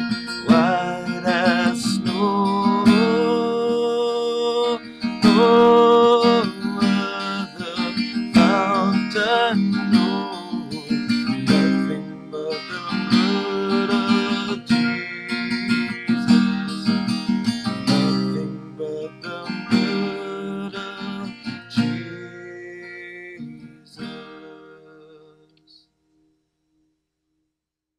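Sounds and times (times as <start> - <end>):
strummed acoustic guitar: 0.0 - 26.4.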